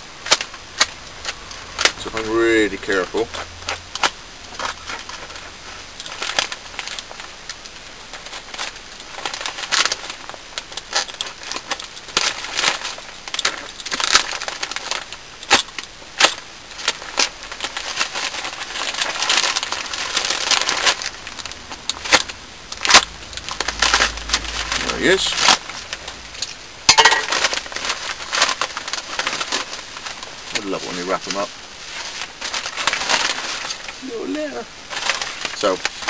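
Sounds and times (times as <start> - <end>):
packaging crinkling and tearing: 0.0 - 36.0.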